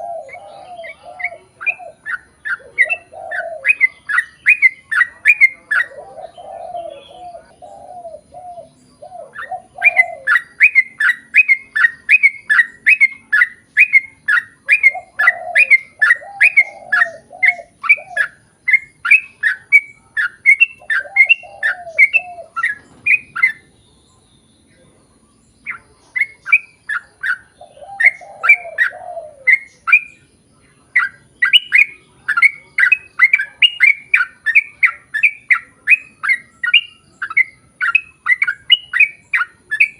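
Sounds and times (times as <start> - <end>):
bird chirping loudly: 0.0 - 39.9
lower bird warbling: 0.0 - 39.9.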